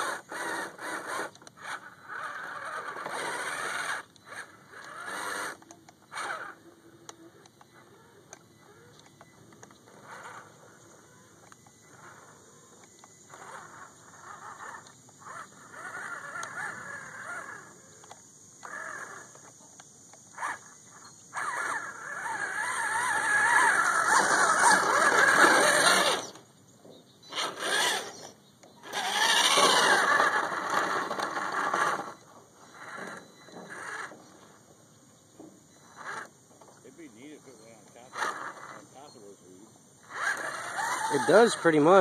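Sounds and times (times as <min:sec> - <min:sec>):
electric motor and gears whining: 0:00.0 - 0:26.5, 0:27.2 - 0:34.7, 0:35.4 - 0:42.0.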